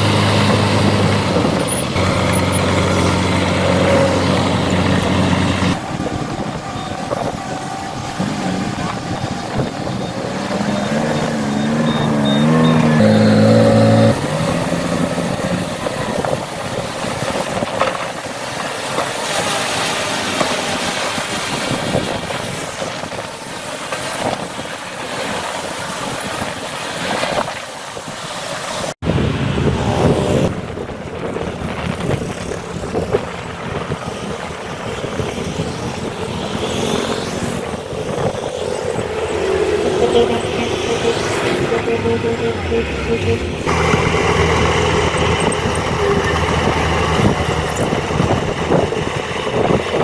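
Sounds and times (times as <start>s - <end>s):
heavy diesel machinery running: 0.0s - 26.9s, 29.0s - 50.0s.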